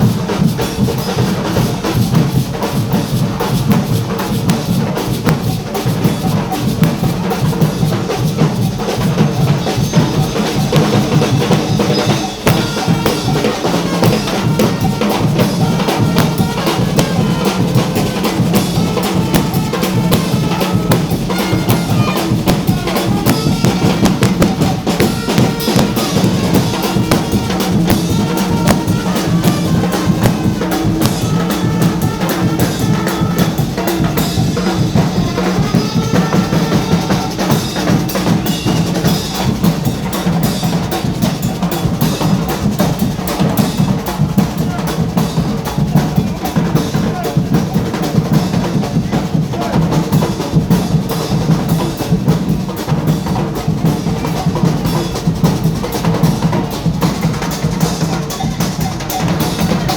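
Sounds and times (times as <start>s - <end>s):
carnival drumming: 0.0s - 59.9s.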